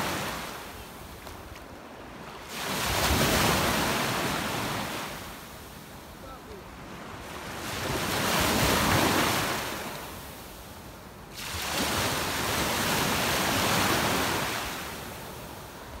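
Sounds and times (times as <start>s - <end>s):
small sea waves washing in: 0.0s - 16.0s.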